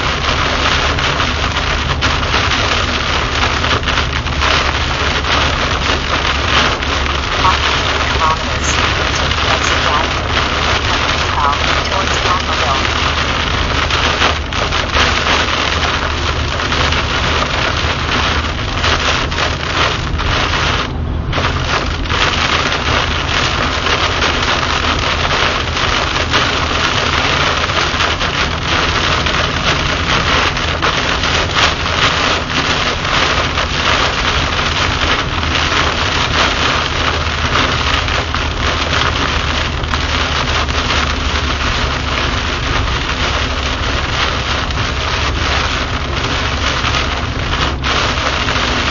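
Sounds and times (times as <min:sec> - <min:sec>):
heavy rain on car windshield: 0:00.0 - 0:48.9
tyres and engine rumble: 0:00.0 - 0:48.9.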